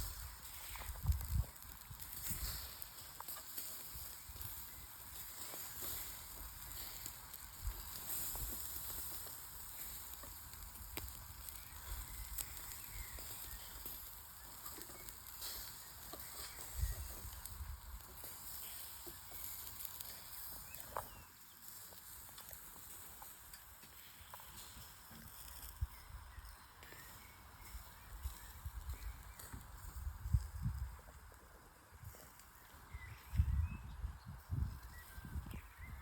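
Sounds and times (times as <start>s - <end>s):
food sizzling on a grill: 0.0s - 30.8s
faint crackles: 0.0s - 36.0s.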